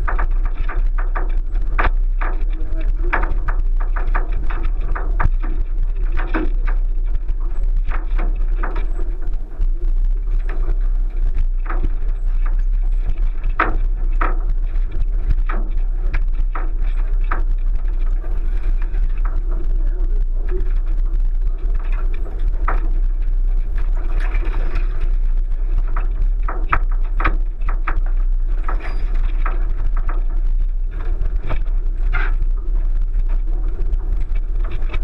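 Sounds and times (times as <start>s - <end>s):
car engine rumbling: 0.0s - 35.0s.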